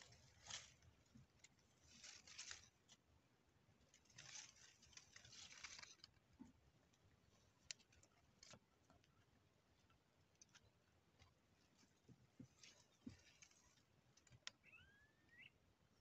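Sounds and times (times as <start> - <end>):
faint rustling: 0.0 - 14.6.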